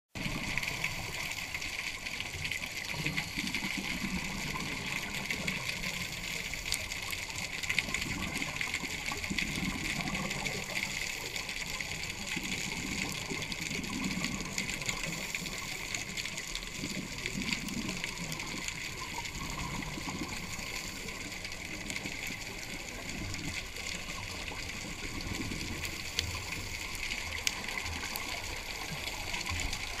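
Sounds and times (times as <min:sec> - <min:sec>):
underwater hiss: 0:00.2 - 0:30.0.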